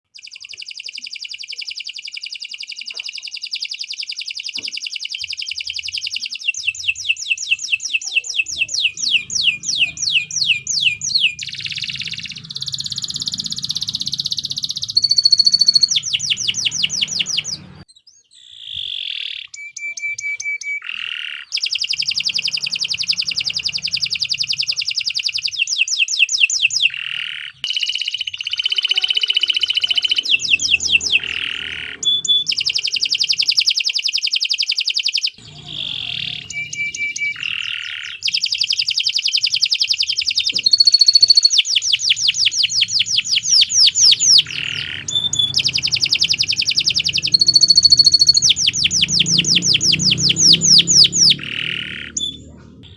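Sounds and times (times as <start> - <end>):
canary singing: 0.1 - 52.9.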